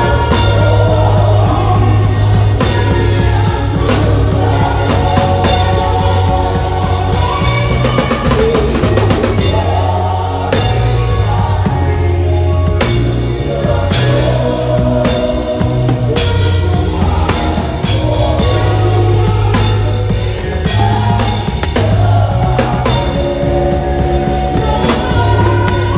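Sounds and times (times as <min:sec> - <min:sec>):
drum kit playing: 0:00.0 - 0:25.9
electric bass guitar low notes: 0:00.0 - 0:25.9
keyboard: 0:00.0 - 0:25.9.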